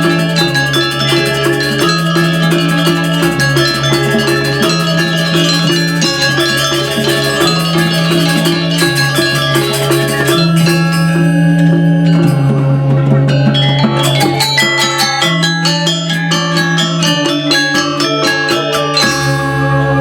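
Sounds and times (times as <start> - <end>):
gamelan playing: 0.0 - 20.0.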